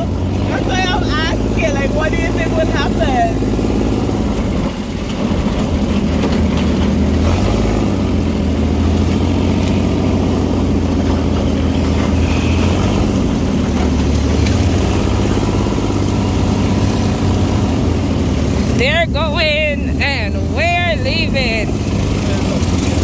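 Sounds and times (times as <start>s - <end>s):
dune buggy engine running: 0.0s - 23.0s.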